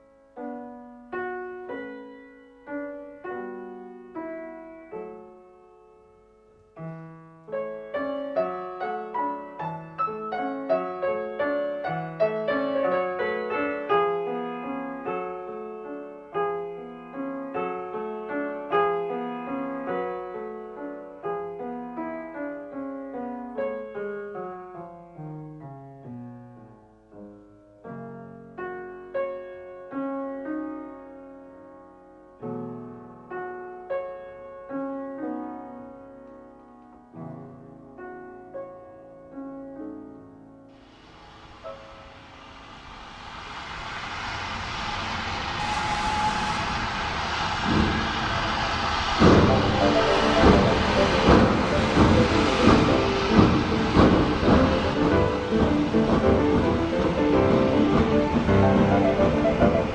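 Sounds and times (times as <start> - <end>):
piano melody over chords: 0.0 - 42.6, 49.2 - 59.9.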